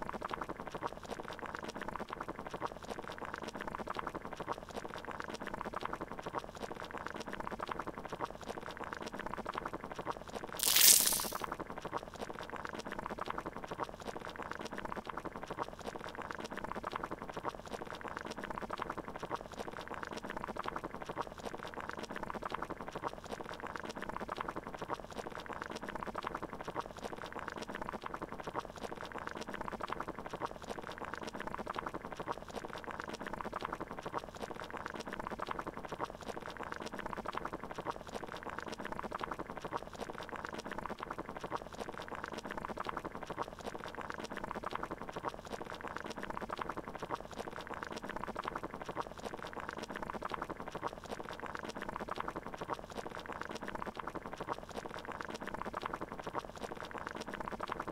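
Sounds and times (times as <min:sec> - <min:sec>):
water boiling in a pot: 0:00.0 - 0:57.9.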